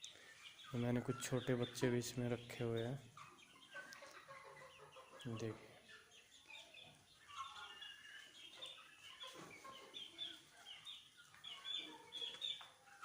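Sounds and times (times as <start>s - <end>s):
chicken clucking: 0.0s - 13.0s
chicks chirping and peeping: 0.0s - 13.0s.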